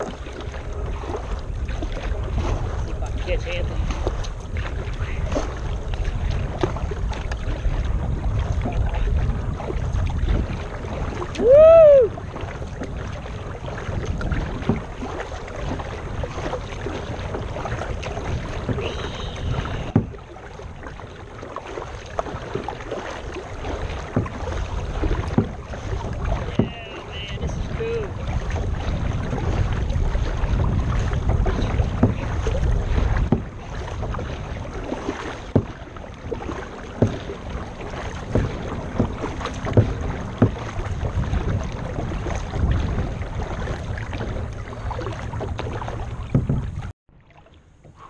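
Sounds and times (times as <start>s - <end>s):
wind rumbling on microphone: 0.0s - 47.0s.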